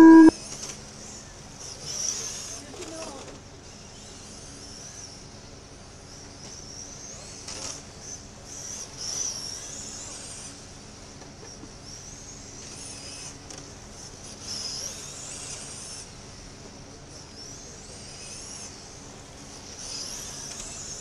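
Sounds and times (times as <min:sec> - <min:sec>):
rc race cars whining: 0:00.0 - 0:21.0.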